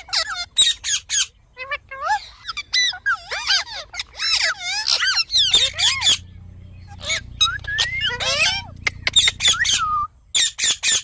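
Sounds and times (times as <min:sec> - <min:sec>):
parrots squawking and chirping: 0:00.0 - 0:11.0.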